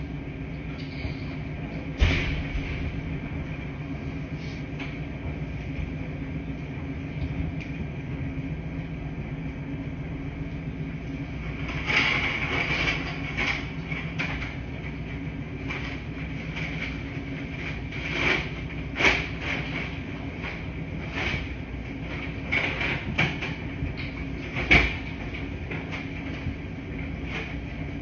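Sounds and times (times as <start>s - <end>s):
laundry machine humming: 0.0s - 28.0s.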